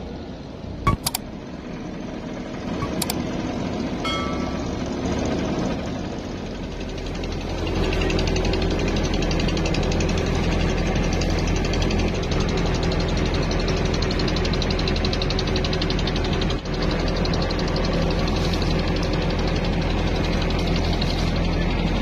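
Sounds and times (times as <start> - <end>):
boat engine droning with rattle: 0.0 - 22.0.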